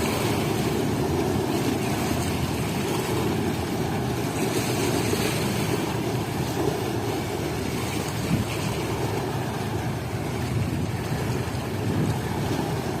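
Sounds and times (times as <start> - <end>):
sea water washing: 0.0 - 13.0.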